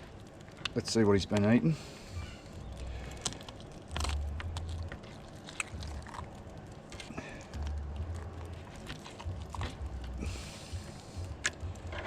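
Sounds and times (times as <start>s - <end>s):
wet squelches of fish gutting: 2.0s - 11.9s
low rumble: 2.0s - 12.0s.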